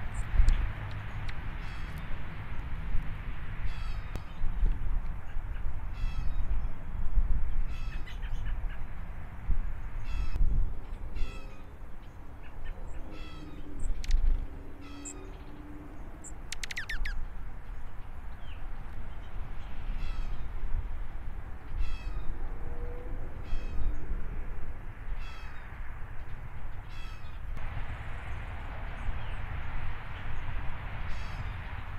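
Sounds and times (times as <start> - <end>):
birds chipping and twittering: 0.0 - 31.9.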